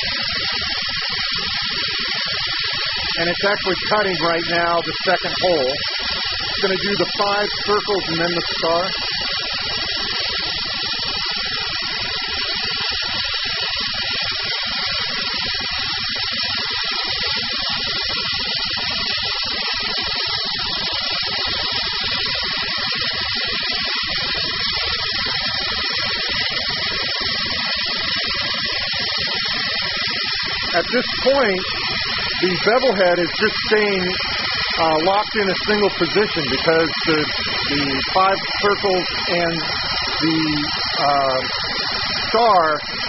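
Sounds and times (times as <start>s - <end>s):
waterjet cutting hiss: 0.0s - 43.0s.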